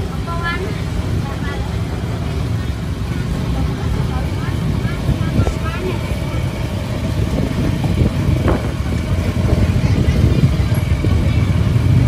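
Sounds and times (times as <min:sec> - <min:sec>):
motorbike and car traffic rumble: 0:00.0 - 0:12.0.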